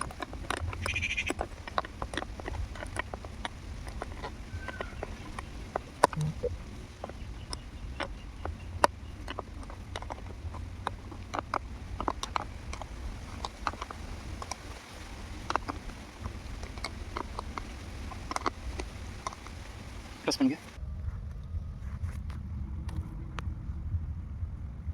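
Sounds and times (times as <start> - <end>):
light clicks and knocks: 0.0 - 20.8
steady low rumble: 0.0 - 24.9.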